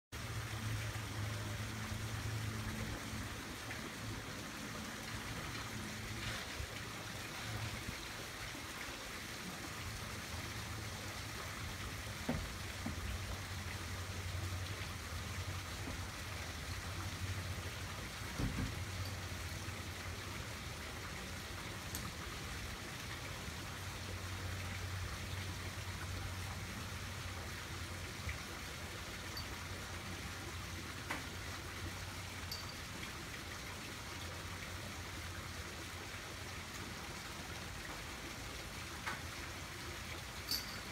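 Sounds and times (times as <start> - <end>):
trickling water hiss: 0.2 - 40.9.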